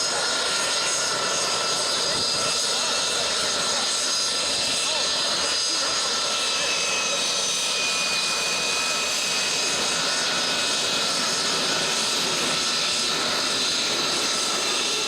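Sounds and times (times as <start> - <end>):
jet engines with turbine whine: 0.0 - 15.0.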